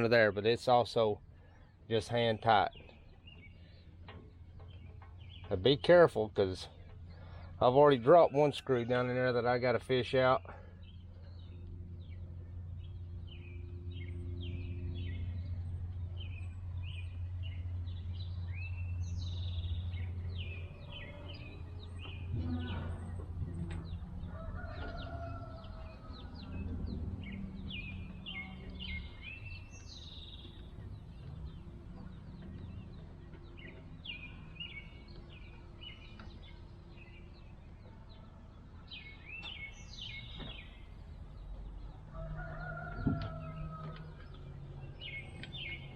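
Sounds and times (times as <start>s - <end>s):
birds chirping: 0.0s - 45.9s
steady low hum: 0.0s - 45.9s.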